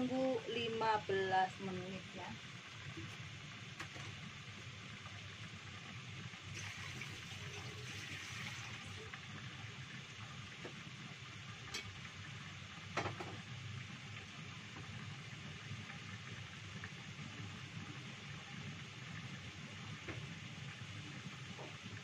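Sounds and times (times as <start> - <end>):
water boiling hiss: 0.0 - 22.0.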